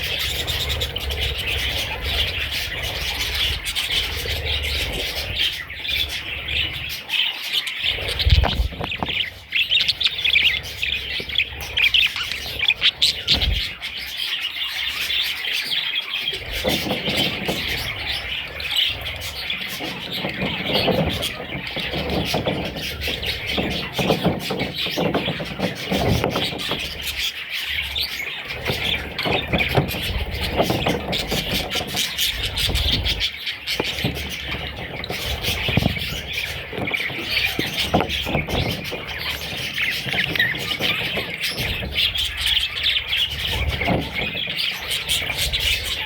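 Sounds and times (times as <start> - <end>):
budgerigars chirping: 0.0 - 46.0.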